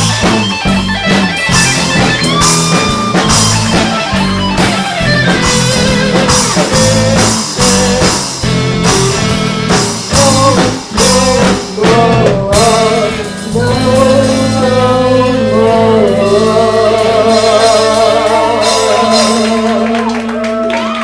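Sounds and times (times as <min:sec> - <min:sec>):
rock blues band playing: 0:00.0 - 0:21.0.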